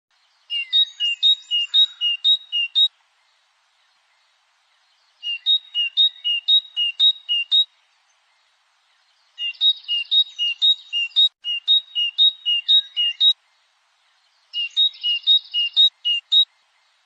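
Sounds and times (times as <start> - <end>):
goldfinch singing: 0.2 - 2.9, 3.8 - 17.0.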